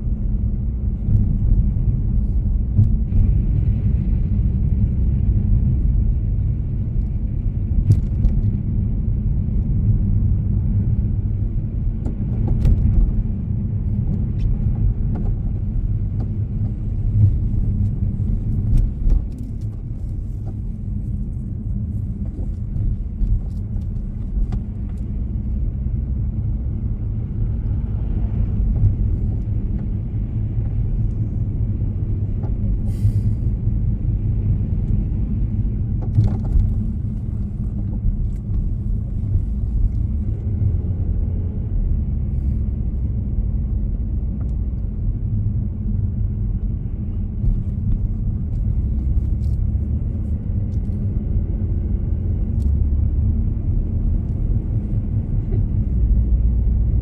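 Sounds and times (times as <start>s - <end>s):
road vehicle rumbling: 0.0s - 57.0s.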